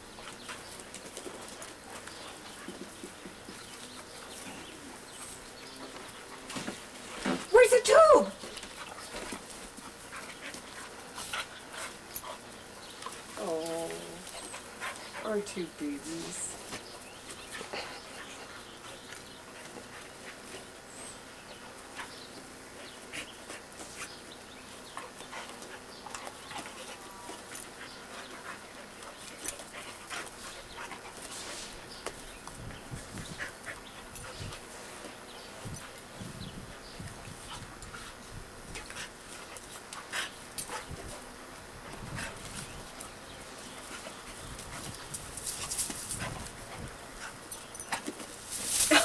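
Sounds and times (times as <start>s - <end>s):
dogs scuffling on grass: 0.0s - 49.0s
dogs panting: 0.1s - 7.2s, 8.4s - 49.0s.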